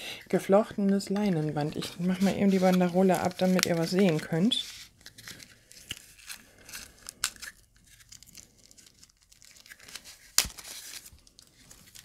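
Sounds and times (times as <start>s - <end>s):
paper band tearing and rustling: 1.6s - 12.0s.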